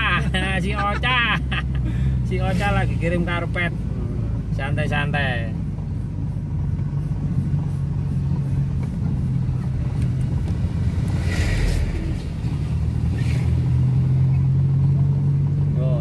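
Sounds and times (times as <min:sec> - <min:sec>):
car cabin engine and road drone: 0:00.0 - 0:16.0
passing traffic rush: 0:00.0 - 0:16.0.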